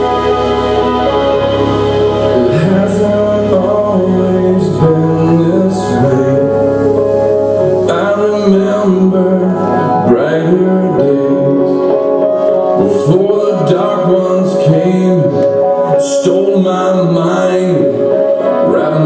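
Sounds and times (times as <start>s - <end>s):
man singing: 0.0s - 19.0s
sustained instrumental accompaniment: 0.0s - 19.0s.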